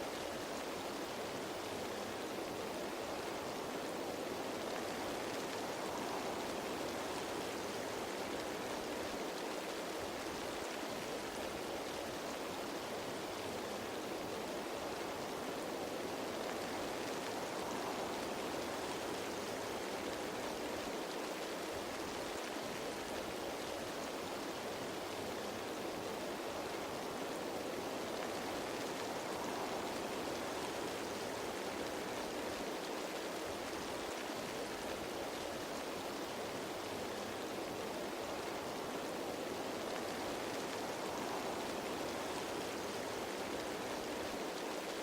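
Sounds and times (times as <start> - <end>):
rain falling on leaves: 0.0 - 45.0.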